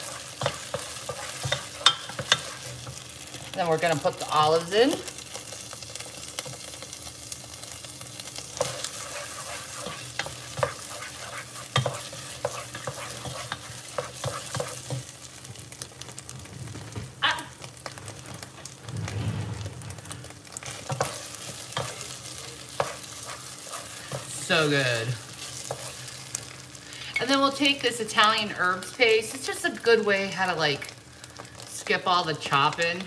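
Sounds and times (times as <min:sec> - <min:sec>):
sauce sizzling in a pot: 0:00.0 - 0:19.0, 0:19.6 - 0:33.0.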